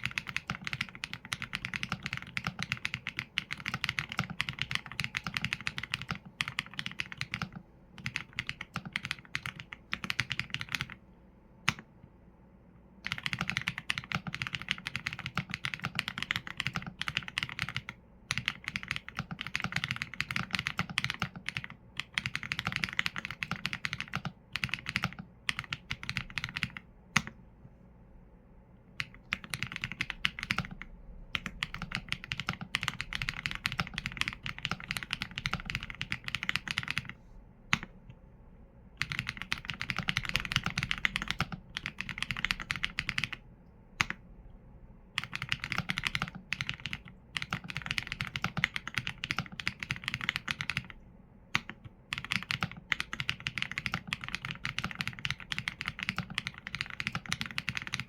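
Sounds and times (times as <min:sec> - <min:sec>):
typing on a mechanical keyboard: 0:00.0 - 0:11.0, 0:13.0 - 0:27.4, 0:29.0 - 0:37.9, 0:39.0 - 0:43.4, 0:44.0 - 0:44.2, 0:45.2 - 0:58.0.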